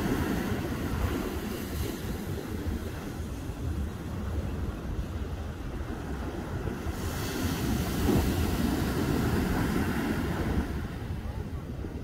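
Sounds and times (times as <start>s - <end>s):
waves breaking on a beach: 0.0s - 12.0s
wind on the microphone: 0.0s - 12.0s.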